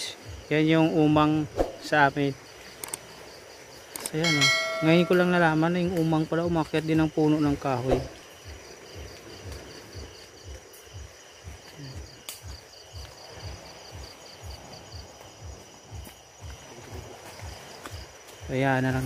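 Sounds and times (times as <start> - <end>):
high insect drone: 0.0 - 19.0
insects chirping: 0.0 - 19.0.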